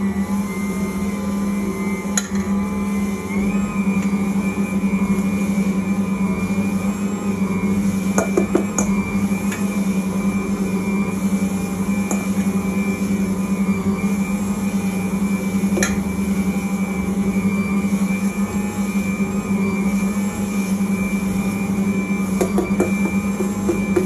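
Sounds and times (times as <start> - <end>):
stand mixer motor hum: 0.0 - 24.0.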